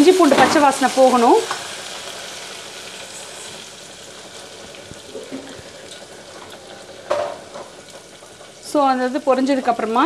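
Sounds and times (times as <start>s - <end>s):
paste sizzling in hot oil: 0.0s - 10.0s.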